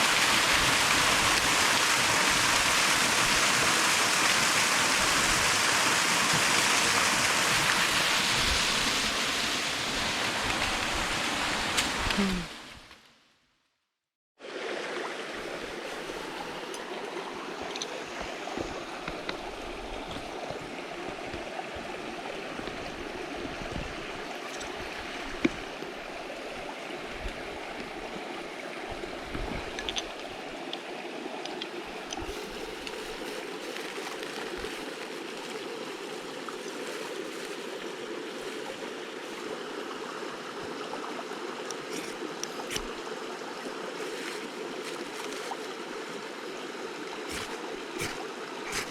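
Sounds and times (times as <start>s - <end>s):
stream rushing over rocks: 0.0s - 12.8s, 14.4s - 48.9s.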